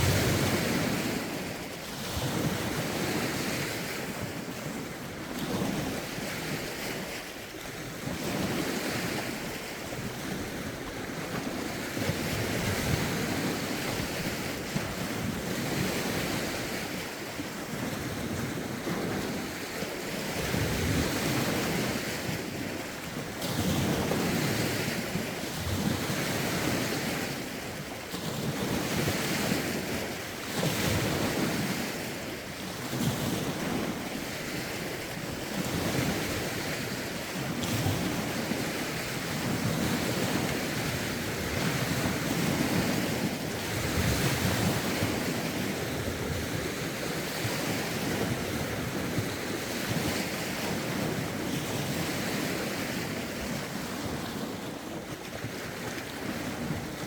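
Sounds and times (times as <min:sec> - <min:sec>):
waves lapping on shore: 0:00.0 - 0:57.0
wind buffeting microphone: 0:00.0 - 0:57.0.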